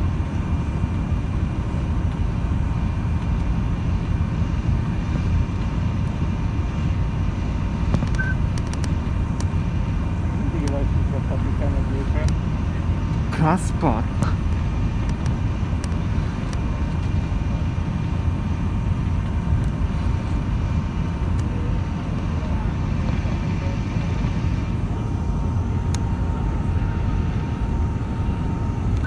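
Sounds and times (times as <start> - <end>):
faint steady whine: 0.0 - 29.0
propeller engines droning: 0.0 - 29.0.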